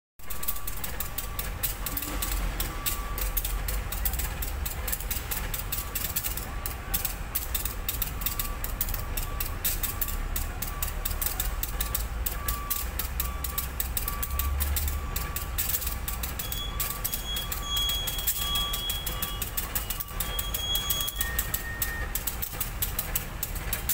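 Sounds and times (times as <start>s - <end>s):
short high beeps: 0.2s - 4.6s, 5.6s - 22.2s
diesel locomotive rumbling: 0.3s - 23.9s.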